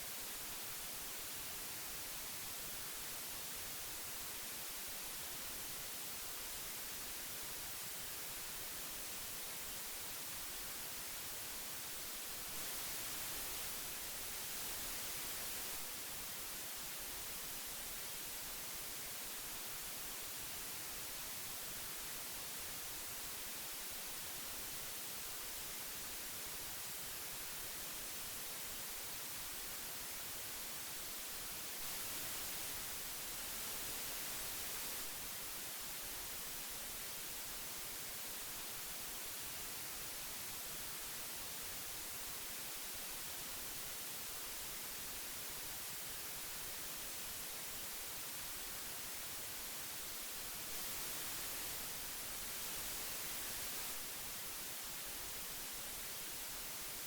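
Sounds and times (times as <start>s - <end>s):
magnetic tape hiss: 0.0s - 57.0s.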